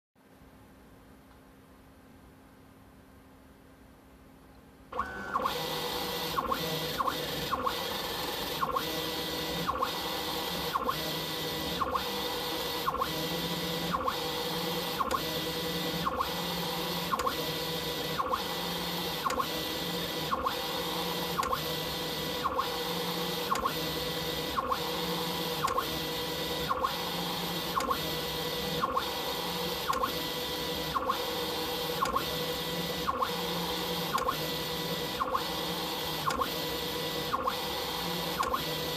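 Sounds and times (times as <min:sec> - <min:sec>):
stepper motor electric whine: 0:05.0 - 0:38.9.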